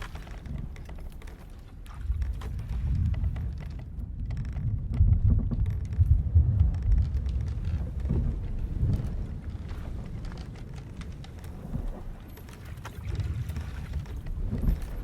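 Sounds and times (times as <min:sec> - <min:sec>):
low rumble of ship at sea: 0:00.0 - 0:15.0
ship timbers creaking: 0:00.0 - 0:15.0.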